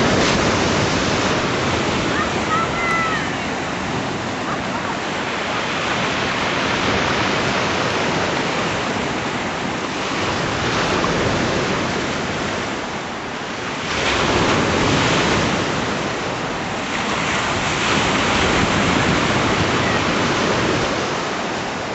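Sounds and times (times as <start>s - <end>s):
waves washing onto rocky shore: 0.0s - 21.9s
wind on microphone: 0.0s - 21.9s.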